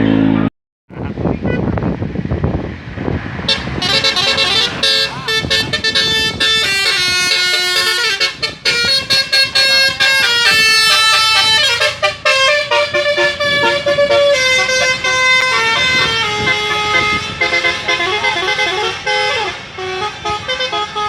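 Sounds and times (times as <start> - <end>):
bus horn playing a tune: 3.4 - 21.0.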